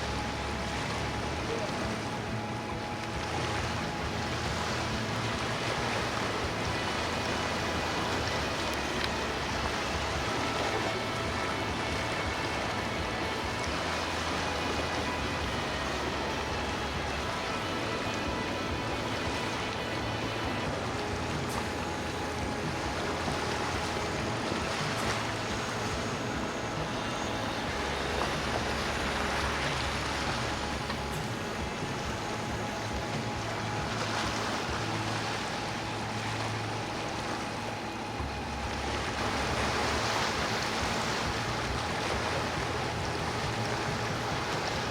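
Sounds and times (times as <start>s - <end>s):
boat engines humming: 0.0s - 44.9s
water rushing: 0.0s - 44.9s
wind: 0.0s - 44.9s.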